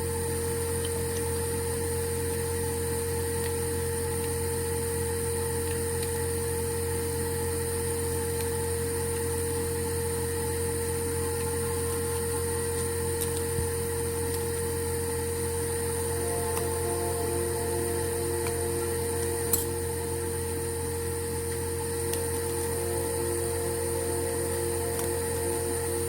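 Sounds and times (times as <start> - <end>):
faint high whine: 0.0 - 26.0
machine hum: 0.0 - 26.0.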